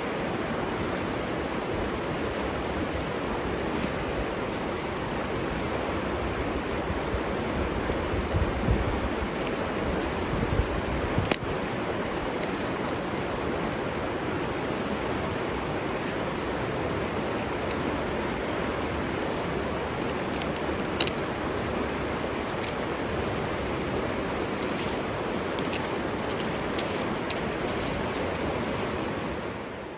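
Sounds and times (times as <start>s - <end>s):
river water flowing: 0.0s - 29.9s.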